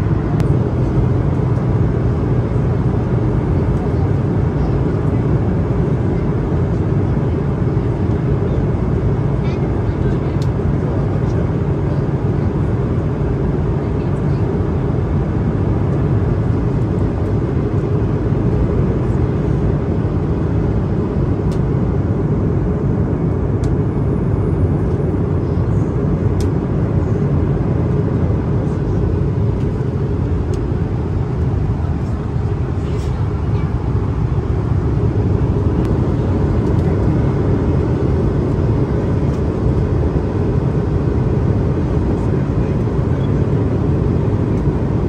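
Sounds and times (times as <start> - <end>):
airliner cabin noise: 0.0 - 45.0.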